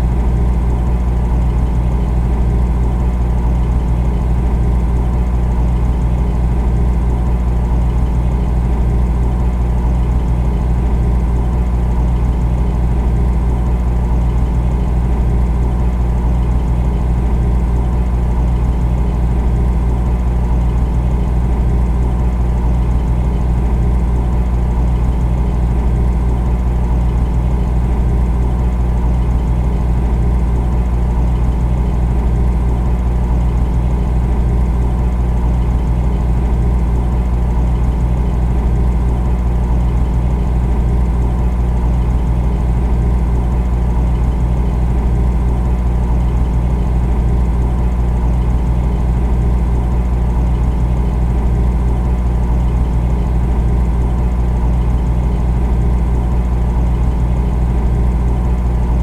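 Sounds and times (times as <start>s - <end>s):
refrigerator humming: 0.0s - 59.0s.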